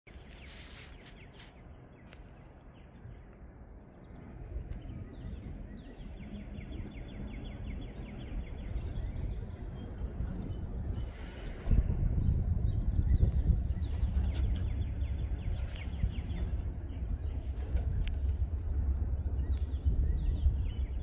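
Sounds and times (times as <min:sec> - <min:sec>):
freight train rumbling by: 0:04.1 - 0:21.0.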